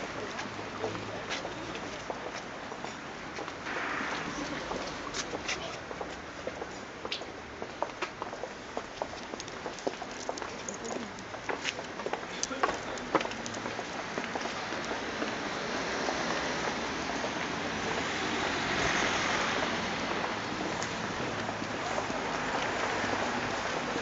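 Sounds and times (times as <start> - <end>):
street traffic hiss: 0.0 - 24.0.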